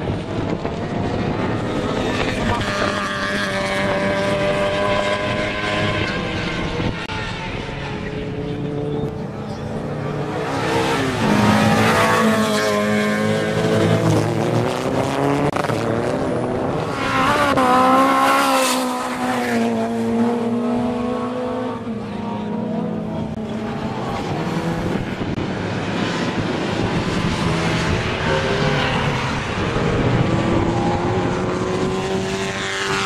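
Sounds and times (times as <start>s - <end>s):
racing car engines revving: 0.0s - 33.0s.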